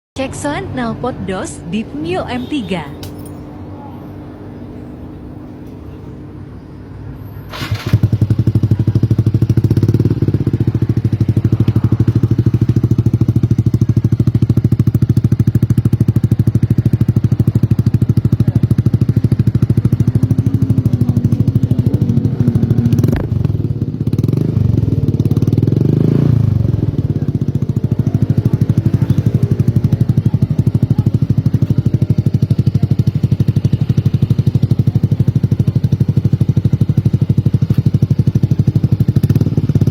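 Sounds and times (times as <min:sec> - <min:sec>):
scooter engine idling and revving: 0:00.2 - 0:39.9.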